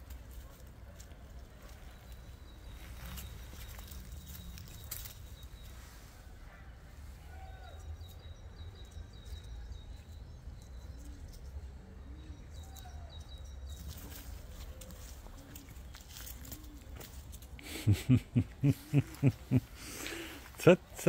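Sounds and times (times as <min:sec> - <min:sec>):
faint bird chirps: 0:01.5 - 0:20.9.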